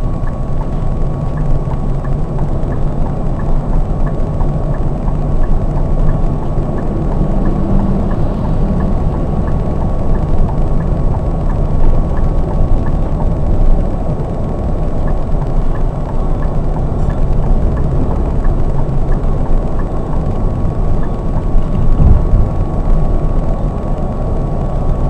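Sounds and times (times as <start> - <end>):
coach engine and road rumble: 0.0 - 25.0
constant whine: 0.0 - 25.0
faint regular tick: 0.0 - 25.0.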